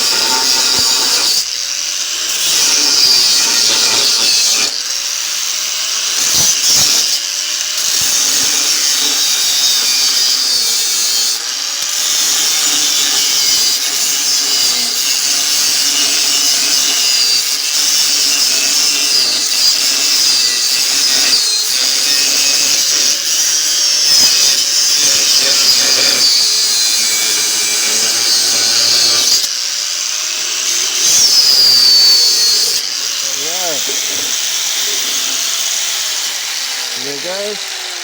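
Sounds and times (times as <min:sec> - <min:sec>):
angle grinder cutting steel: 0:00.0 - 0:38.0
grinder rattling against steel: 0:00.0 - 0:38.0.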